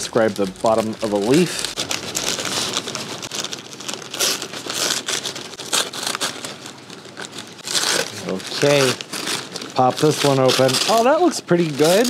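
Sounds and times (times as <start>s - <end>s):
paper crinkling: 0.0s - 12.0s
plastic bag rustling: 0.0s - 12.0s.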